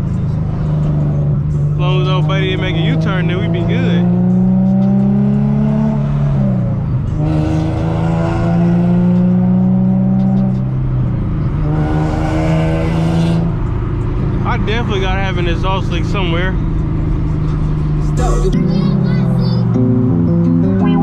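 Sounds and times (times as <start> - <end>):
car engine revving through gears: 0.0 - 18.3.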